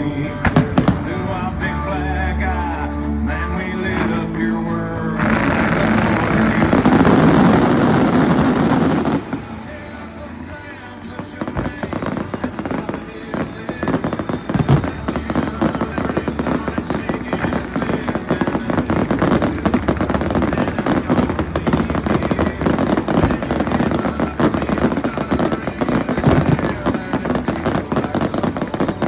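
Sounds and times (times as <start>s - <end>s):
fireworks crackling and banging: 0.2s - 1.4s, 5.2s - 29.0s.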